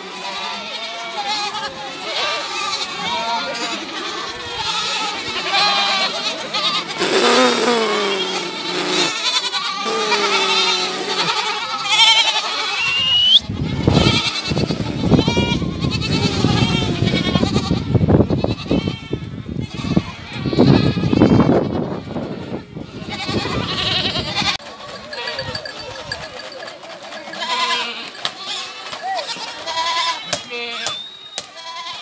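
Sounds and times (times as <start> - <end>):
goats bleating: 0.0 - 30.9, 31.5 - 32.0.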